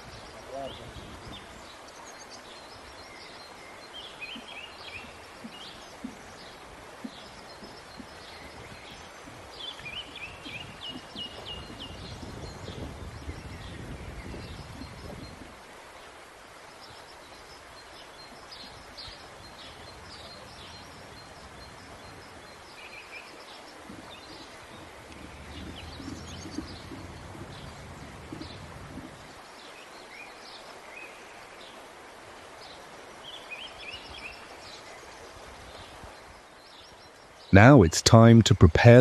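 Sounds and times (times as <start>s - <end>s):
small birds chirping: 0.0s - 31.8s
outdoor background hiss: 0.0s - 39.0s.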